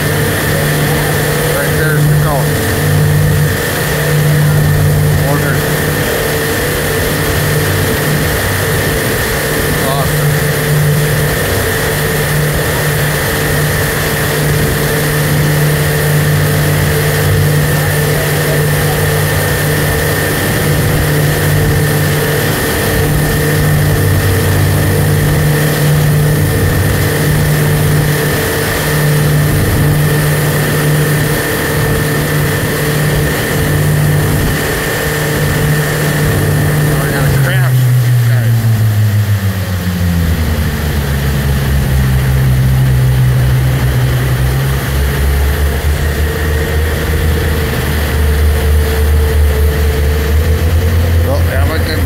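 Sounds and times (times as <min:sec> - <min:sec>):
boat engine running: 0:00.0 - 0:52.0
rushing wind: 0:00.0 - 0:52.0
water noise: 0:00.0 - 0:52.0.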